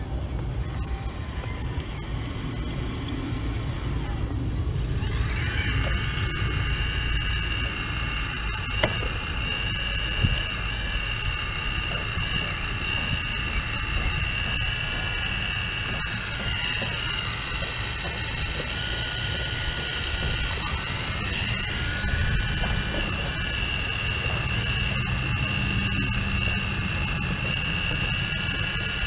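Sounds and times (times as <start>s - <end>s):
high-pitched hydraulic whine: 0.0s - 29.0s
diesel engine rumble: 1.6s - 29.0s.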